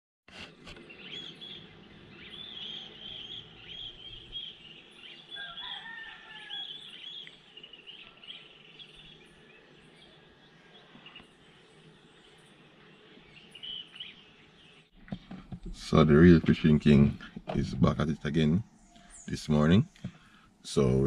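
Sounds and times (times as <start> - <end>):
lower warbling birdsong: 0.7 - 21.0.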